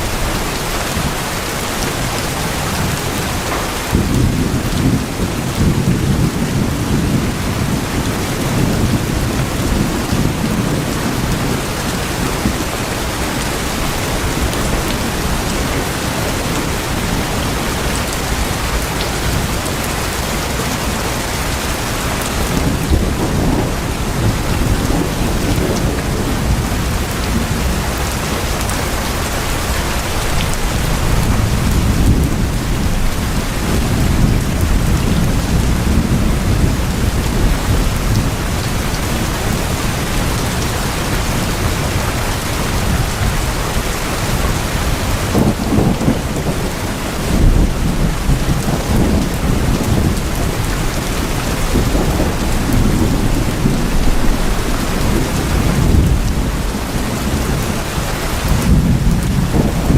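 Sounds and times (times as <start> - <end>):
heavy rain on tin roofs: 0.0 - 59.9.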